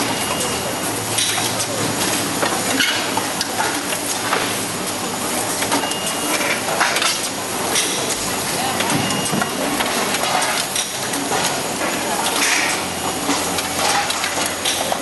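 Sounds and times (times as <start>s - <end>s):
packing machine running: 0.0s - 15.0s.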